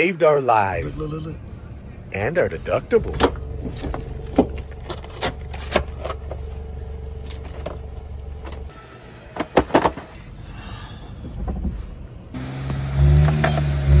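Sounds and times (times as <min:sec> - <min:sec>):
vehicle engine running: 0:00.7 - 0:14.0.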